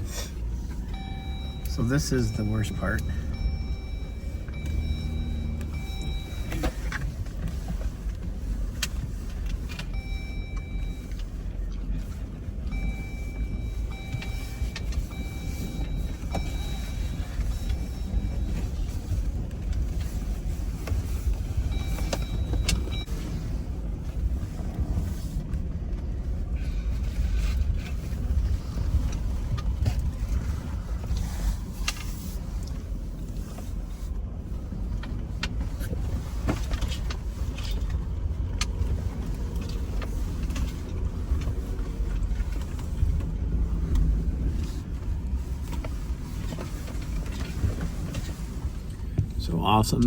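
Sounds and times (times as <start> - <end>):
low engine and tyre rumble: 0.0 - 50.0.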